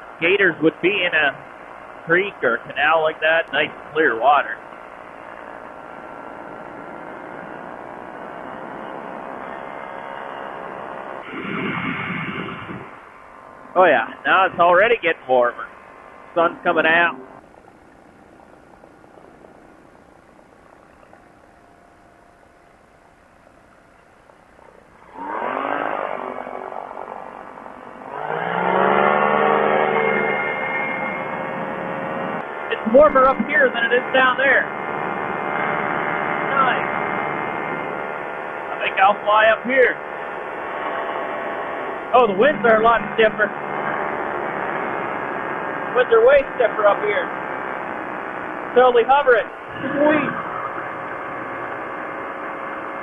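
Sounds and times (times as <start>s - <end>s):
ultralight engine and propeller droning: 0.0s - 53.0s.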